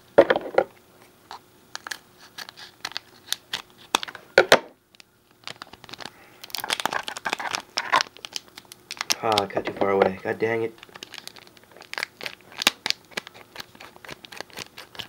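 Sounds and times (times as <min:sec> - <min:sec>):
plastic wrapper crinkling: 0:01.8 - 0:04.2, 0:04.9 - 0:15.0.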